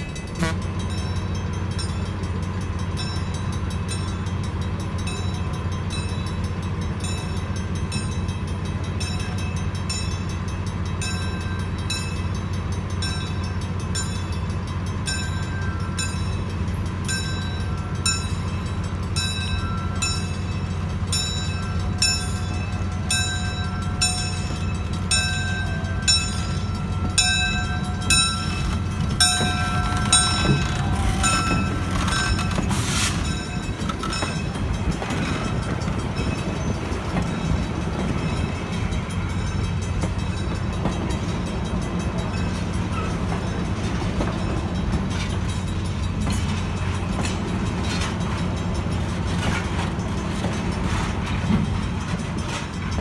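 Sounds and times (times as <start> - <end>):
crossing bell ringing: 0.0 - 53.0
locomotive rumble: 0.0 - 53.0.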